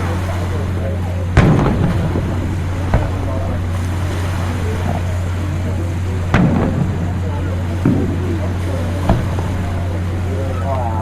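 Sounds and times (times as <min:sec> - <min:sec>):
fireworks booming: 0:00.0 - 0:10.8
low hum: 0:00.0 - 0:11.0.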